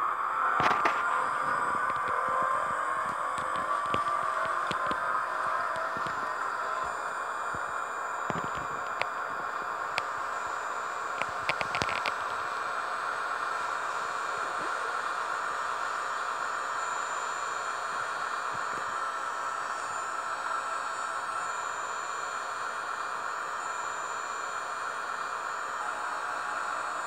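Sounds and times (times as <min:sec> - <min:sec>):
model locomotive hissing whir: 0:00.0 - 0:27.0.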